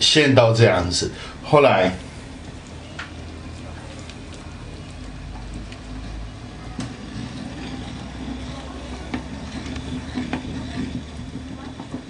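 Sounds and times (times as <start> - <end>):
steady low hum: 0.0 - 12.0
sauce boiling with pops: 1.1 - 12.0.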